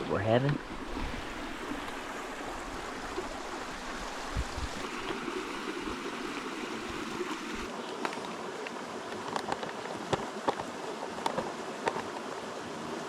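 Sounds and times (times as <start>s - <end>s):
creek water rushing over rock: 0.0s - 13.0s.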